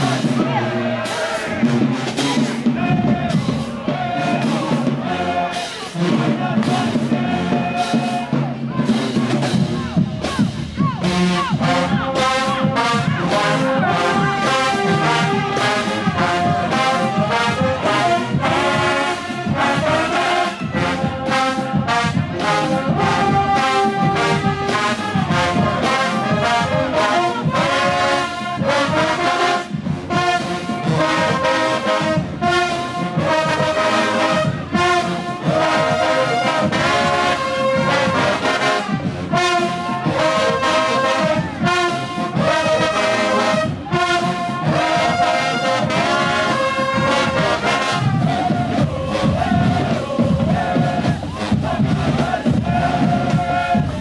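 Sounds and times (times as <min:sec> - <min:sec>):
brass section blaring: 0:00.0 - 0:54.0.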